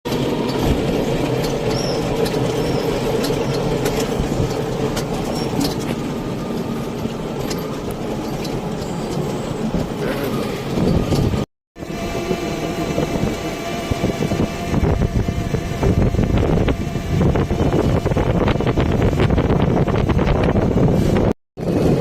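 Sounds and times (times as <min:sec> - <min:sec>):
vehicle road rumble: 0:00.1 - 0:22.0.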